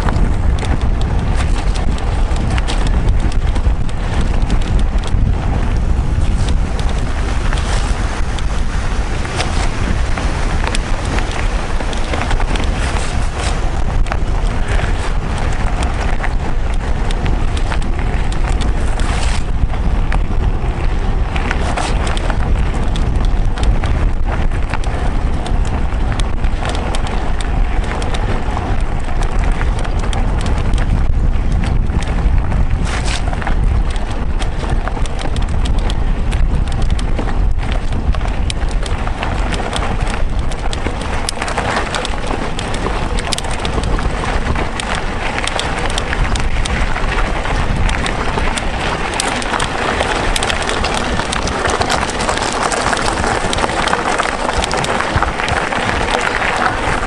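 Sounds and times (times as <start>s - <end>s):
bike clicks and rattles: 0.0s - 57.0s
wind buffeting microphone: 0.0s - 57.0s.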